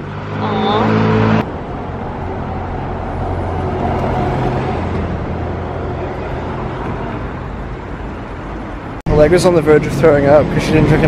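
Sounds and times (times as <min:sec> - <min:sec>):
steady road traffic noise: 0:00.0 - 0:11.0
vehicle passing: 0:00.0 - 0:11.0.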